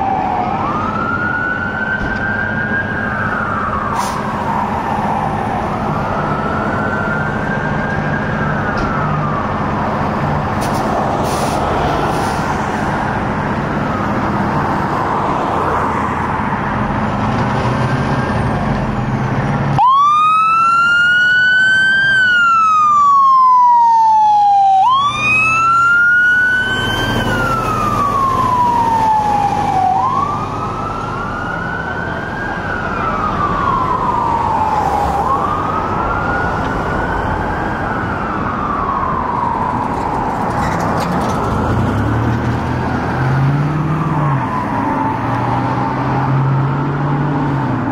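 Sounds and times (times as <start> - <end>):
fire truck siren wailing: 0.0 - 47.9
truck engine rumble: 0.0 - 47.9.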